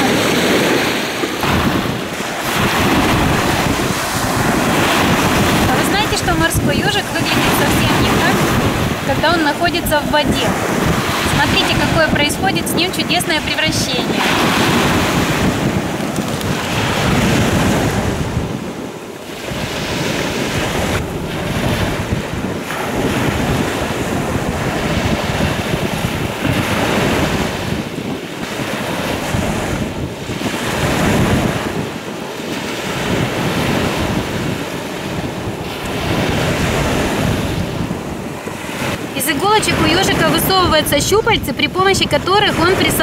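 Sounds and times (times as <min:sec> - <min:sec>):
sea surf breaking on shore: 0:00.0 - 0:43.0
wind buffeting microphone: 0:00.0 - 0:43.0.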